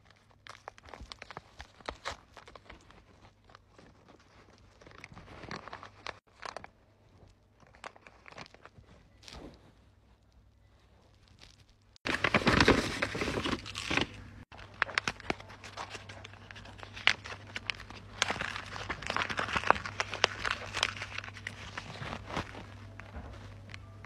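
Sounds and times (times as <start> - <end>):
plastic wrapping crinkling and tearing: 0.0 - 9.5, 11.1 - 24.0.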